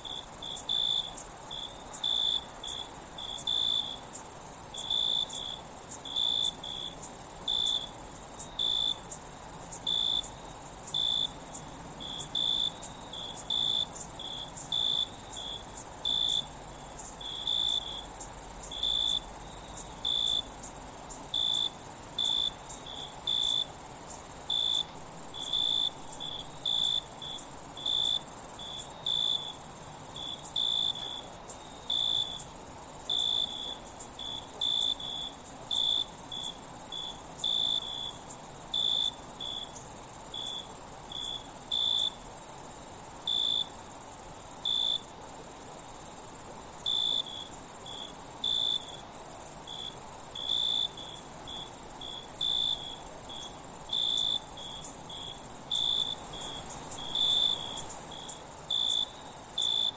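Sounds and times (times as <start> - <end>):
crickets and insects trilling: 0.0 - 59.9.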